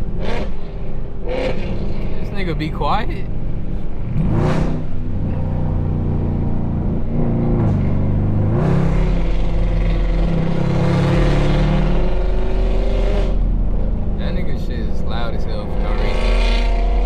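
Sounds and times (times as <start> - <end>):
car engine exhaust drone: 0.0 - 17.0.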